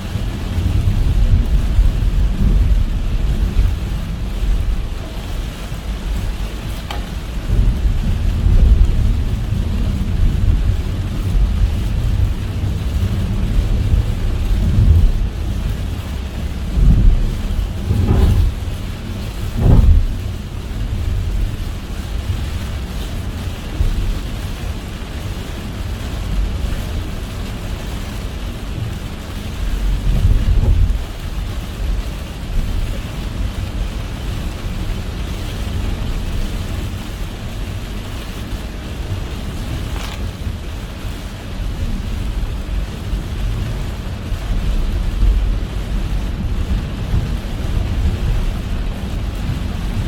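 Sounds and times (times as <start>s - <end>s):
rain hiss: 0.0s - 50.0s
tyres rumbling on wet road: 0.0s - 50.0s.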